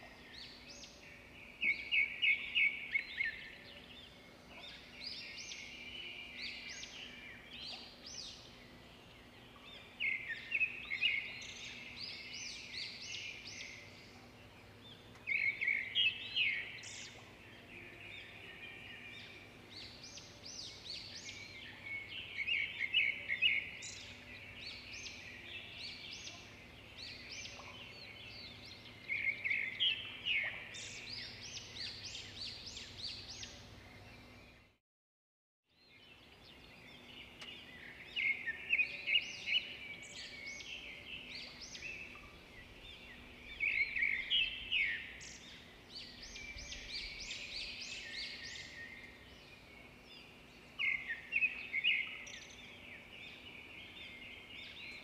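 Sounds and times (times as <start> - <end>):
songbird chirping: 0.0 - 34.8, 35.7 - 55.0.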